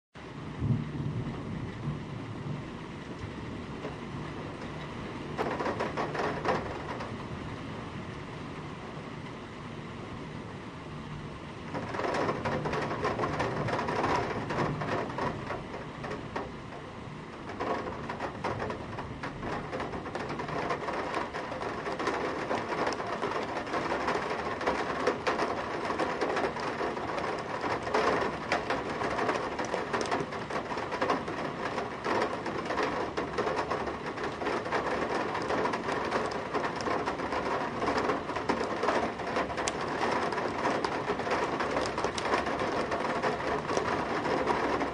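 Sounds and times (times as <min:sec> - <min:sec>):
heavy rain on metal sill: 0:00.2 - 0:44.9.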